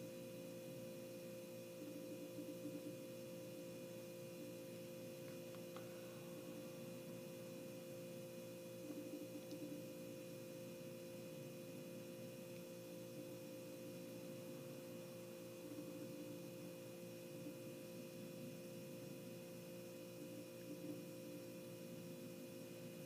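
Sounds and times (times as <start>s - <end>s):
faint steady background hum: 0.0s - 23.0s.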